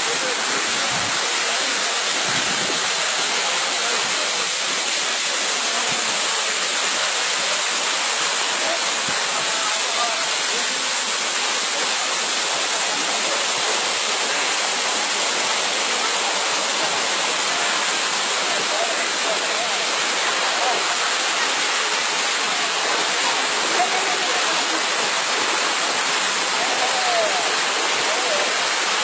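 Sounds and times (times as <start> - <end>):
waterfall rushing onto rocks: 0.0 - 29.0.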